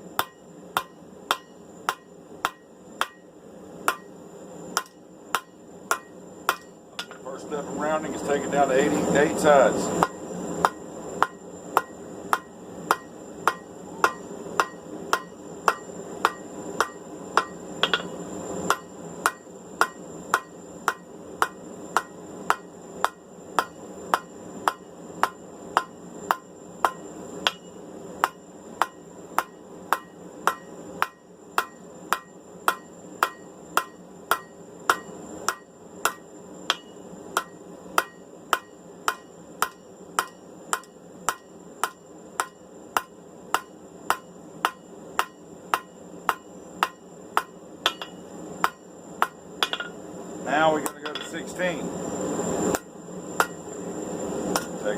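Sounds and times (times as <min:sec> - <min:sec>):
hammer striking steel on anvil: 0:00.2 - 0:03.3, 0:03.9 - 0:04.1, 0:04.8 - 0:07.2, 0:10.0 - 0:50.0, 0:50.8 - 0:51.5, 0:52.7 - 0:53.6, 0:54.5 - 0:54.8.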